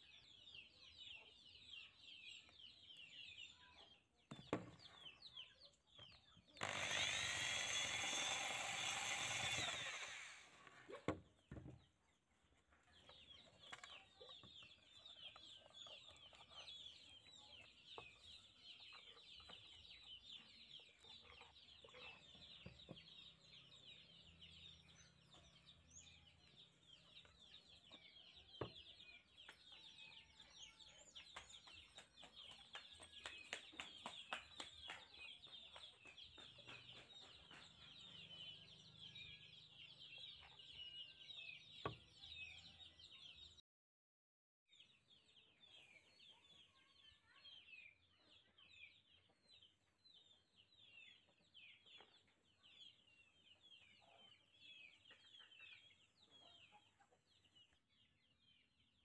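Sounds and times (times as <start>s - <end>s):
chicks peeping: 0.0s - 43.5s, 44.8s - 58.6s.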